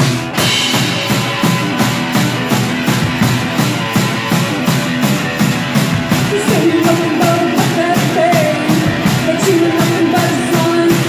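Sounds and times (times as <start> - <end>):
drum kit fast beat: 0.0 - 11.0
electric guitar: 0.0 - 11.0.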